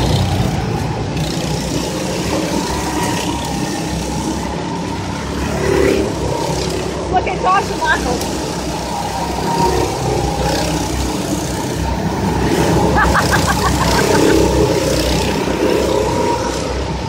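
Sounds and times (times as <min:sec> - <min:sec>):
go-kart engines passing: 0:00.0 - 0:17.0.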